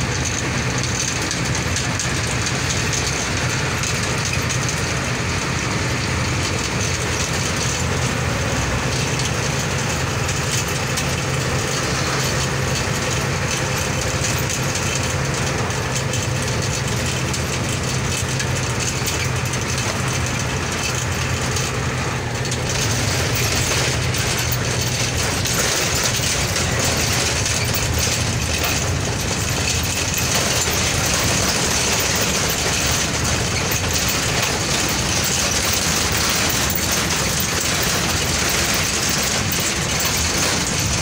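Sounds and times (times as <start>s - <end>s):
low engine hum: 0.0s - 41.0s
road noise inside vehicle: 0.0s - 41.0s.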